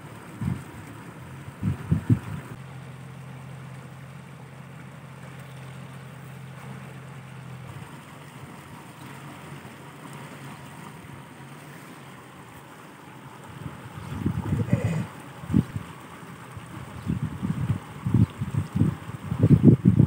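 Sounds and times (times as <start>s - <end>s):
low steady hum: 0.0s - 20.0s
water rushing down channel: 0.0s - 20.0s.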